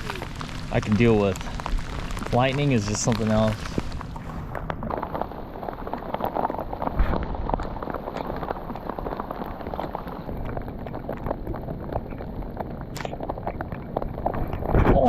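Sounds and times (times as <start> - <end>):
low wind rumble: 0.0 - 15.0
rain patter: 0.0 - 15.0.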